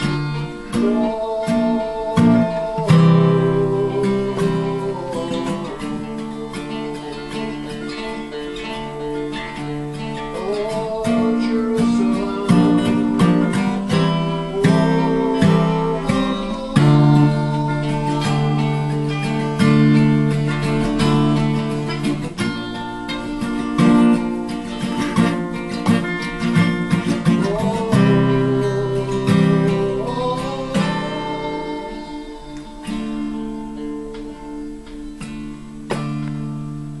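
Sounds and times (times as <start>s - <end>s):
acoustic guitar strummed and picked: 0.0s - 37.0s.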